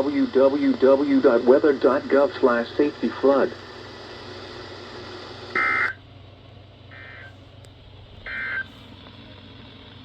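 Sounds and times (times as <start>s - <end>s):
radio hiss and hum: 0.0s - 6.0s, 6.8s - 9.6s.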